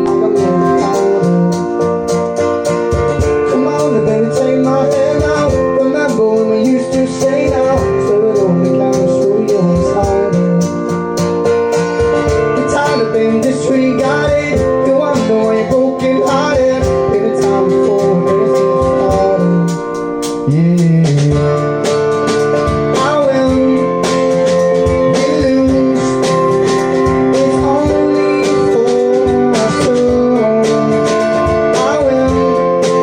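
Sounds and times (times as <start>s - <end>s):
person singing: 0.0s - 2.1s, 3.1s - 11.0s, 12.3s - 22.0s, 22.8s - 33.0s
strummed acoustic guitar: 0.0s - 33.0s
sustained keyboard chords: 0.0s - 33.0s.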